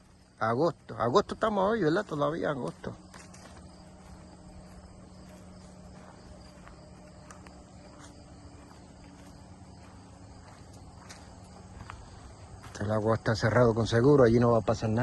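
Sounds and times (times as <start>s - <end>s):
insects chirring: 0.0s - 15.0s
low steady hum: 0.0s - 15.0s.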